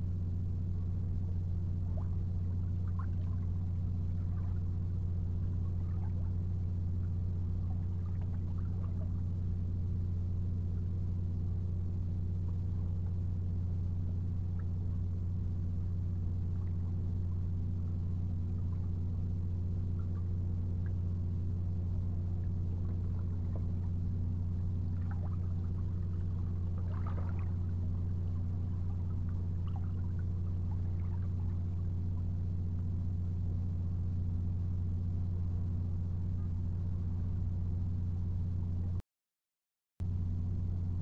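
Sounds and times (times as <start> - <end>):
steady low hum: 0.0 - 39.0, 40.0 - 41.0.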